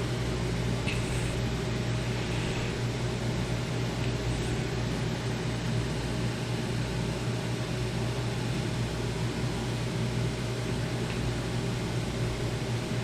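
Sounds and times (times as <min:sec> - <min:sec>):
fan-like hum and hiss: 0:00.0 - 0:13.0.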